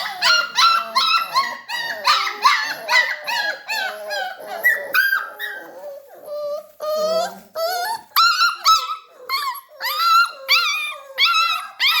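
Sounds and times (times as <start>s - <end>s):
puppies whining and yelping: 0.0s - 12.0s.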